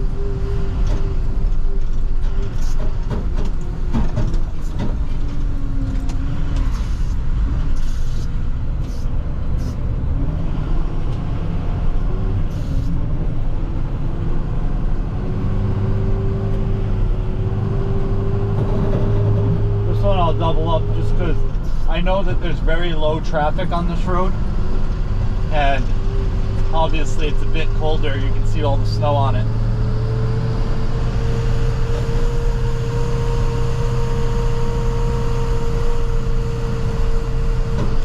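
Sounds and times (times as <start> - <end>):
road noise: 0.0 - 38.0
truck engine drone: 0.0 - 38.0.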